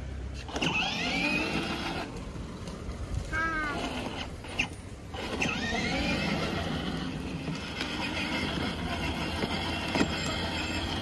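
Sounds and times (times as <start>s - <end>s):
small electric motor running: 0.4s - 2.1s, 3.6s - 11.0s
plastic wheels rolling on concrete: 0.4s - 11.0s.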